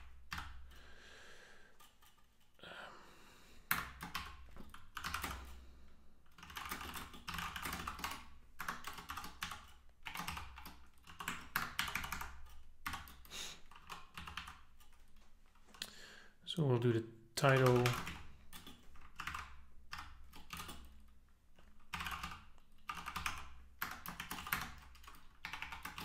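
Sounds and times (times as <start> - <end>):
typing on computer keyboard: 0.0 - 0.8, 1.8 - 2.6, 3.7 - 5.6, 6.2 - 15.2, 17.4 - 26.0.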